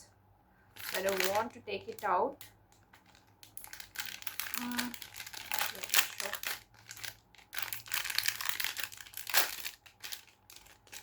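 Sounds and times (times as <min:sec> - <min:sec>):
plastic packaging crinkling: 0:00.7 - 0:11.0.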